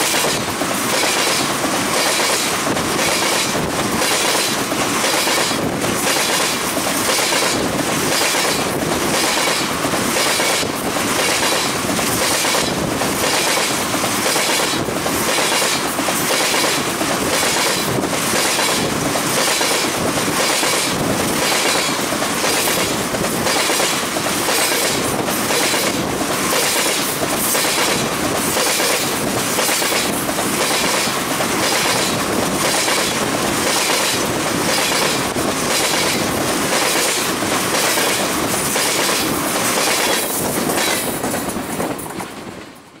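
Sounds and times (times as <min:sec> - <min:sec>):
train wheels rushing on rail: 0:00.0 - 0:43.0
wheels clacking over rail joints: 0:00.0 - 0:43.0.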